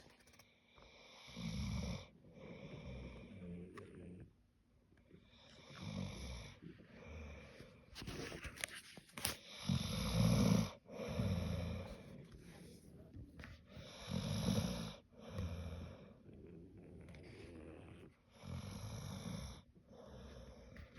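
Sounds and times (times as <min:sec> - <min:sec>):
dog snoring: 0:00.9 - 0:04.3, 0:05.1 - 0:07.8, 0:09.4 - 0:20.9.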